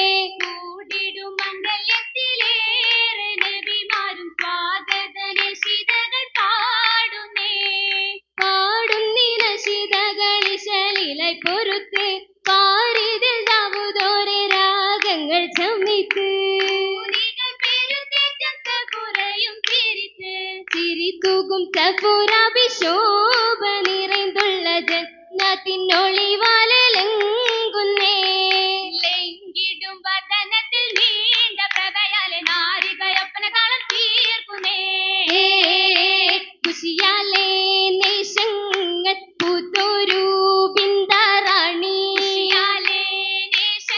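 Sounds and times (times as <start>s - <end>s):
girls singing in chorus: 0.0s - 43.9s
rhythmic hand clapping: 0.0s - 43.9s.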